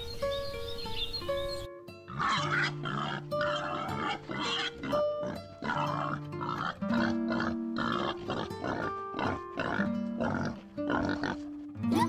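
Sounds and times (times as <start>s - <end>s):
background music with held notes: 0.0s - 12.0s
boars grunting: 2.1s - 11.8s.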